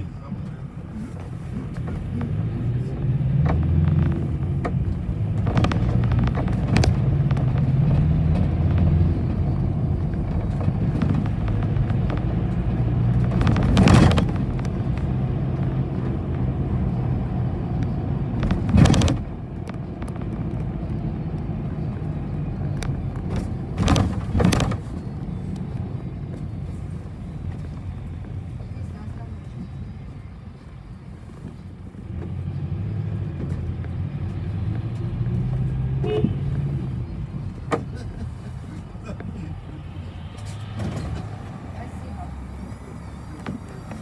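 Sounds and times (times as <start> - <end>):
bus engine drone: 0.0 - 44.0.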